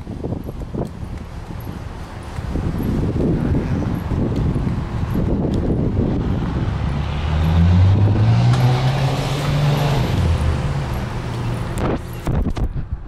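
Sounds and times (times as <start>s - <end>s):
passing vehicle: 2.0s - 12.7s.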